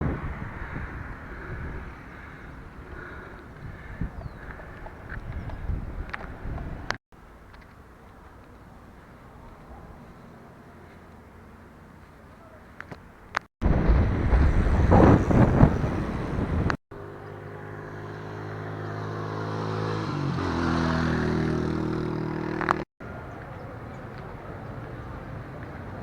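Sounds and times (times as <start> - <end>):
wind and road rush: 0.0 - 26.0.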